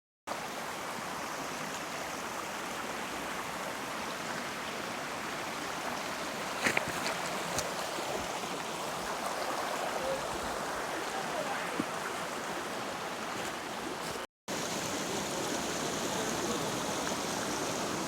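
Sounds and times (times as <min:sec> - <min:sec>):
waterfall and stream rushing: 0:00.3 - 0:18.0.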